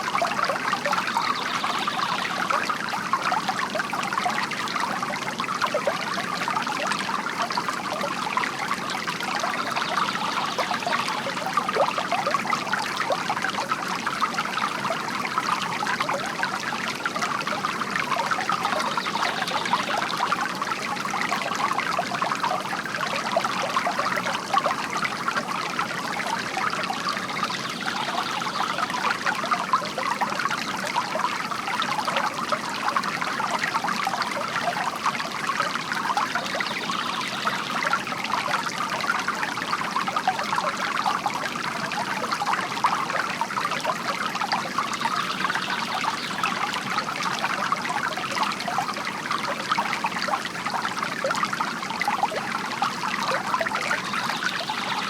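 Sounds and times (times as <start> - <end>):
fountain water trickling and splashing: 0.0 - 55.0.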